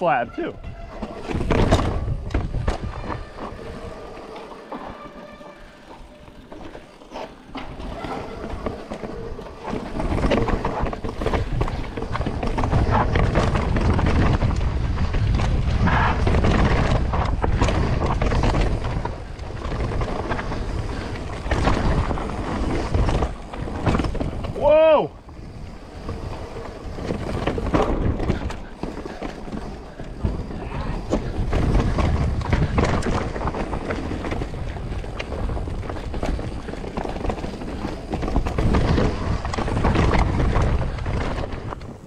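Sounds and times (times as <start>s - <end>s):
bike rattling over bumps: 0.0s - 42.0s
tyres rumbling over dirt: 0.0s - 42.0s.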